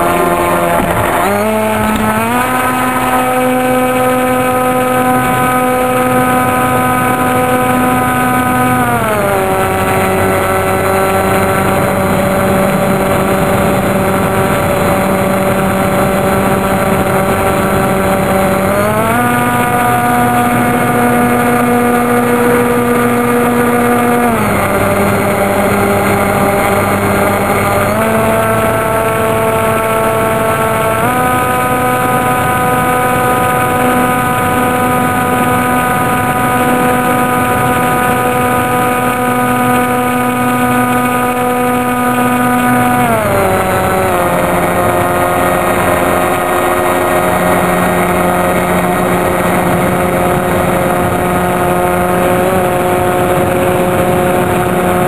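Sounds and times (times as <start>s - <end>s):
model aircraft engine and propeller: 0.0s - 55.0s.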